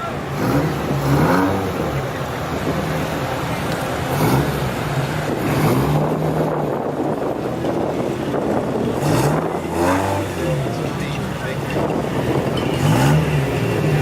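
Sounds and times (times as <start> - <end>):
car and truck engines revving: 0.0 - 14.0
steady traffic rush: 0.0 - 14.0.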